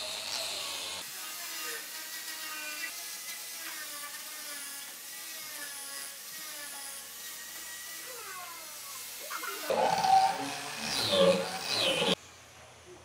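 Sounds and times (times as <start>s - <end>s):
angle grinder sanding wood: 0.0s - 12.2s.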